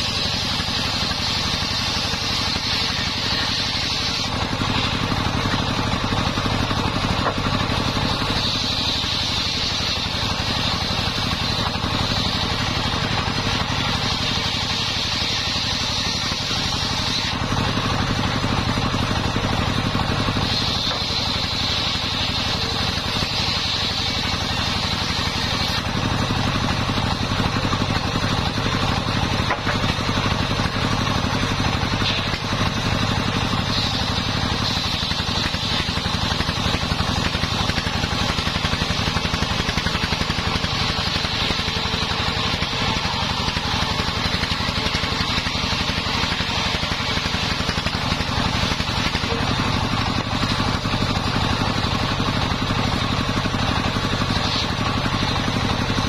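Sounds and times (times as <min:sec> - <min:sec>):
circular saw blade whining: 0:00.0 - 0:56.0
engine droning: 0:00.0 - 0:56.0.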